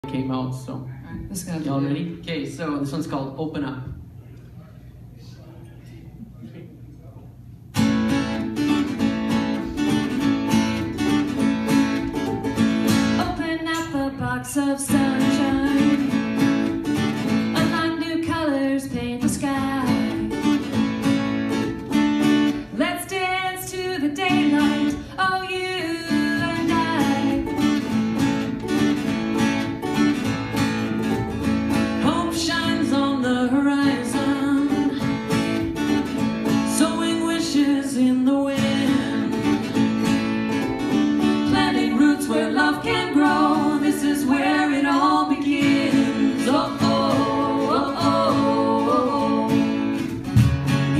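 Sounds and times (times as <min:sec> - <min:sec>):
guitar playing: 0:07.7 - 0:50.9.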